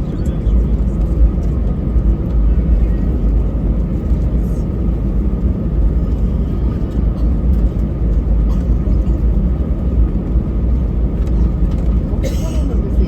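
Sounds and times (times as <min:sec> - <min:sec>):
jet engines running low: 0:00.0 - 0:13.0.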